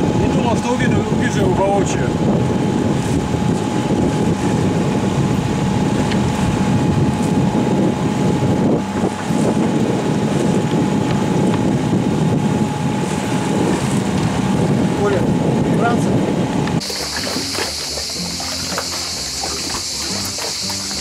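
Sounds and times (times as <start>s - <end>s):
boat engine rumbling: 0.0s - 21.0s
wind buffeting microphone: 0.0s - 21.0s.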